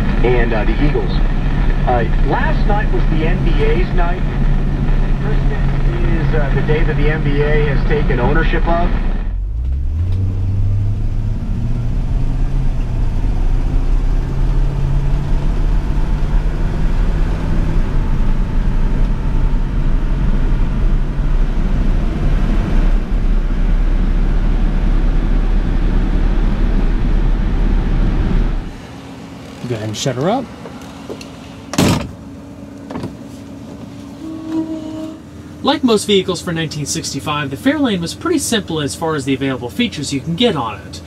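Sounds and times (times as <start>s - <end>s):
car engine from inside cabin: 0.0s - 41.0s
road and wind noise: 0.0s - 41.0s.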